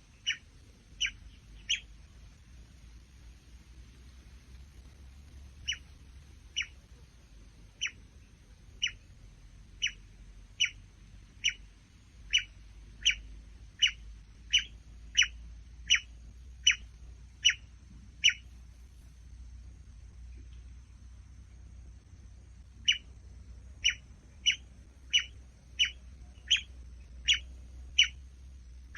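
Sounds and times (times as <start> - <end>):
faint high-pitched whine: 0.0 - 28.9.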